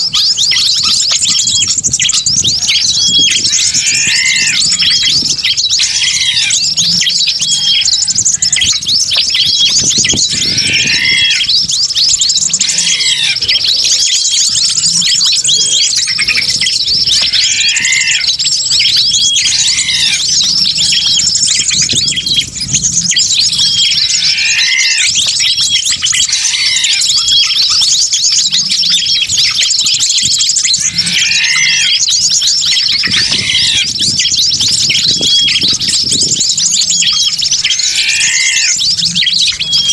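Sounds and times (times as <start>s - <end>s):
repeating arched bird call: 0.0s - 39.9s
small birds chirping and twittering: 0.0s - 39.9s.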